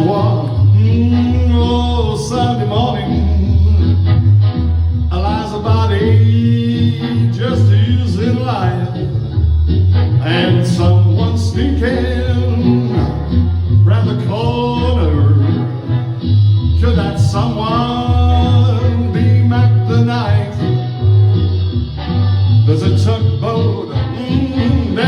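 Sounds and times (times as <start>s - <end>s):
steady bass line: 0.0s - 25.0s
swing band music: 0.0s - 25.0s.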